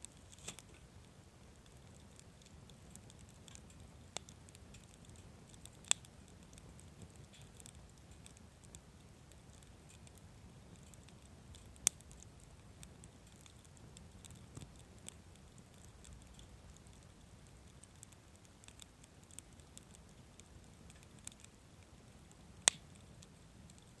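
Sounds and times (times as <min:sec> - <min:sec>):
campfire crackling: 0:00.0 - 0:24.0
firewood popping: 0:00.0 - 0:24.0.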